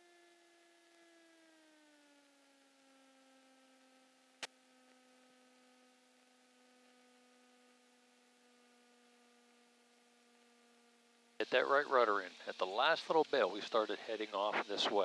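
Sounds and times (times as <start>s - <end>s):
aircraft engine hum: 0.0s - 15.0s.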